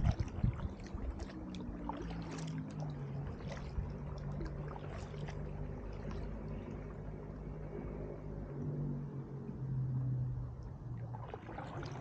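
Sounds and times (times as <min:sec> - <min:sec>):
paddle splashing water: 0:00.0 - 0:09.0, 0:10.2 - 0:12.0
low steady hum: 0:00.0 - 0:12.0.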